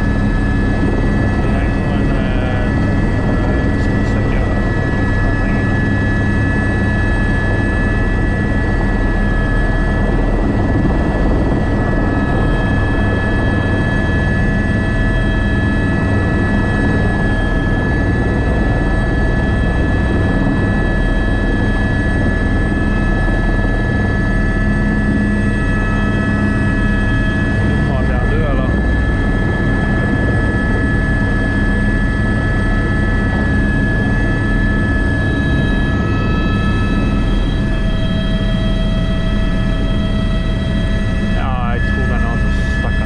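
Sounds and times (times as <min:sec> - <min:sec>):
helicopter flying: 0:00.0 - 0:43.0.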